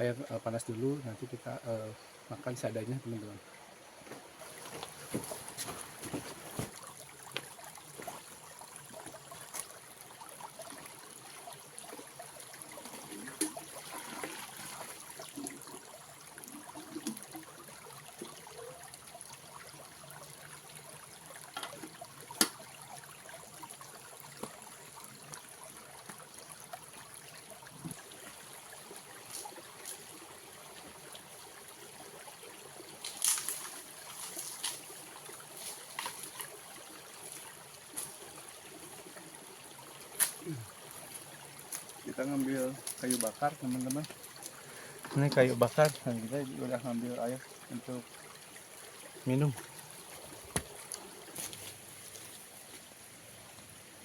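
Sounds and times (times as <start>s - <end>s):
water trickling: 0.4s - 54.0s.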